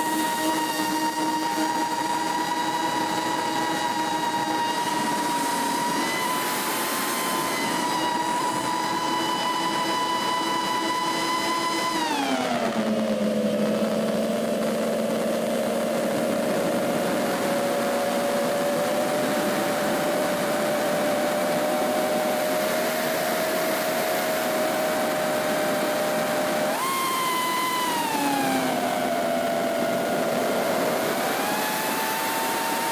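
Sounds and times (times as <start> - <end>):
drone motors whining: 0.0 - 32.9.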